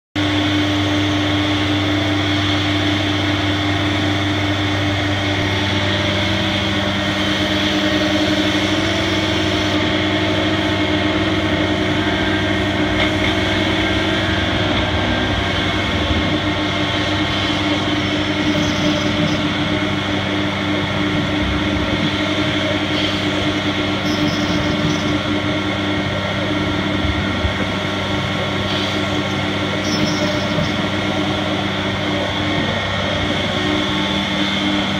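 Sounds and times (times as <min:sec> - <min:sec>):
cnc router cutting drone: 0:00.2 - 0:34.9.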